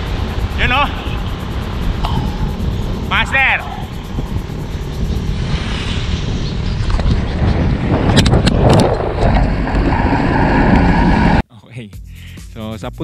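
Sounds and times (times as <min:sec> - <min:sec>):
wind rushing over microphone: 0:00.0 - 0:11.4.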